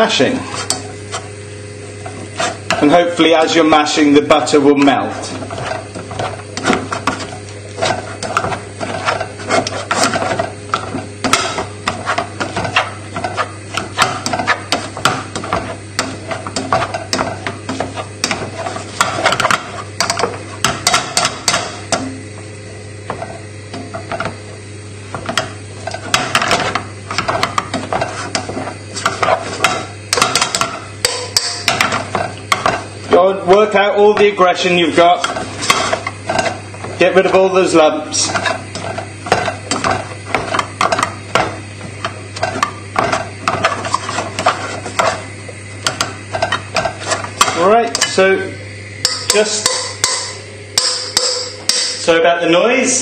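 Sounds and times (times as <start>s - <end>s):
potato masher knocking in pan: 4.4s - 22.2s, 23.1s - 24.4s, 25.1s - 48.2s, 49.0s - 52.0s.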